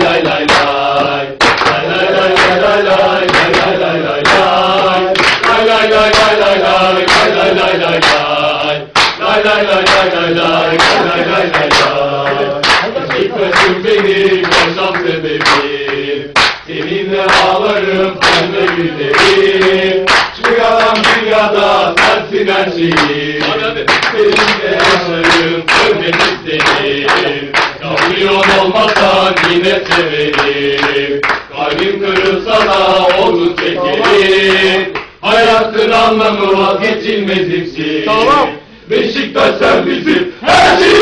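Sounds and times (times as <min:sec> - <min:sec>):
loud hand claps: 0:00.0 - 0:08.3, 0:08.9 - 0:35.2
men singing a football chant: 0:00.0 - 0:41.0.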